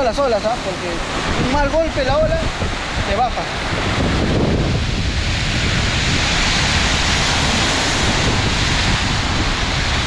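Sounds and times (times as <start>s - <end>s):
surf breaking against rocks: 0.0s - 10.0s.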